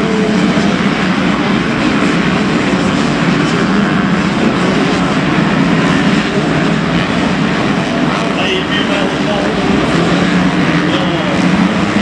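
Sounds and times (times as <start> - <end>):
motocross bike engines racing: 0.0 - 12.0.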